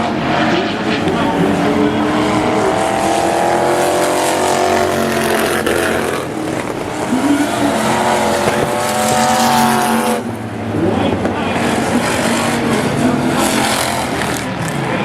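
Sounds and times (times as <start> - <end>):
engine climbing in pitch: 0.0 - 15.0
race car engines revving: 0.0 - 15.0.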